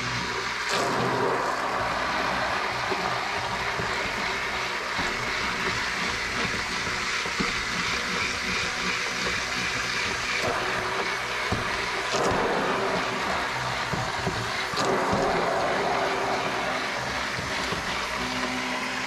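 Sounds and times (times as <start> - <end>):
immersion blender motor whine: 0.0 - 19.0
liquid churning: 0.0 - 19.0.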